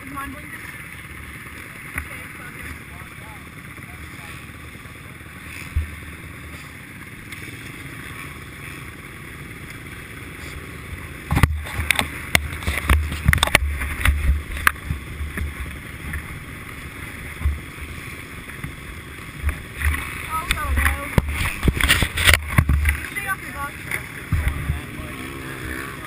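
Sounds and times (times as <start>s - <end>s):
motocross bikes idling: 0.0s - 26.0s.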